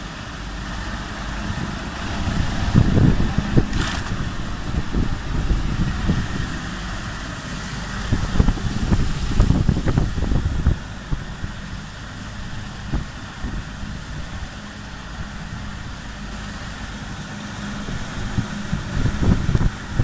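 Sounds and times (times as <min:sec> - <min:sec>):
loud low rumbles: 0:00.0 - 0:20.0.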